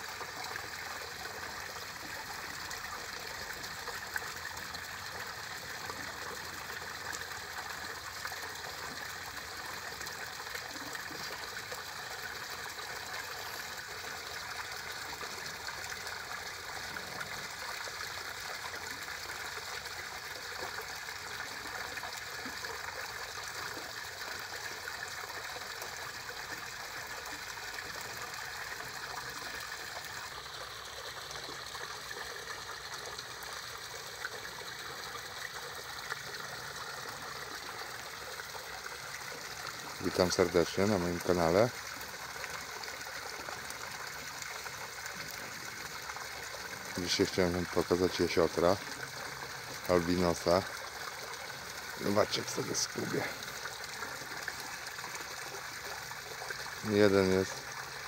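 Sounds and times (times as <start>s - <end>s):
small waterfall trickling: 0.0s - 58.0s.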